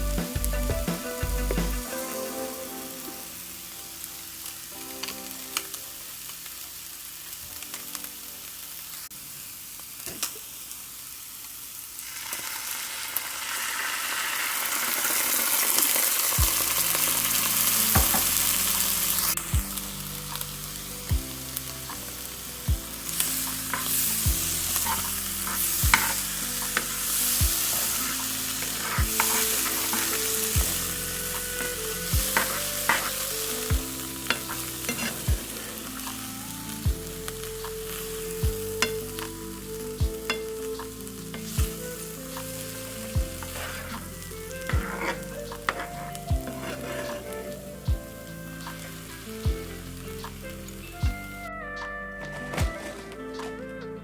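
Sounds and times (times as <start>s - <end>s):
soft background music: 0.0s - 9.1s, 16.1s - 54.0s
food sizzling in a pan: 1.8s - 51.0s.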